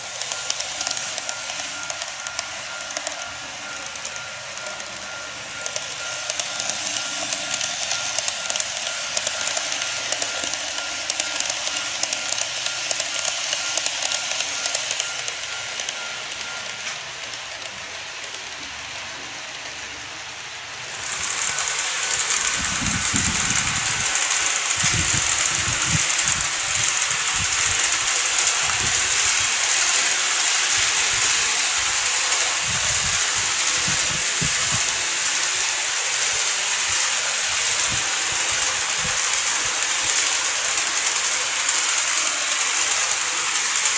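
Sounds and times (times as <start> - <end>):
model train running on track: 0.0 - 43.9
thin steady whine: 0.0 - 43.9.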